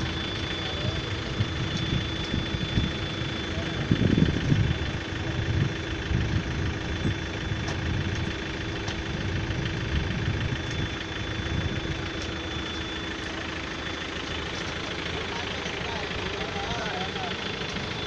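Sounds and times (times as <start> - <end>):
thin high whine: 0.0 - 5.9, 9.2 - 18.0
engine idling: 0.0 - 18.0.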